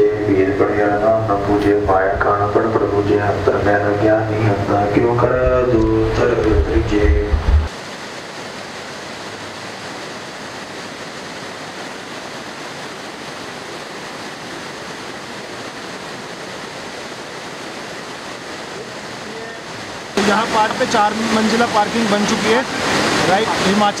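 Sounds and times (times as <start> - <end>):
river rushing over rocks: 2.2 - 24.0.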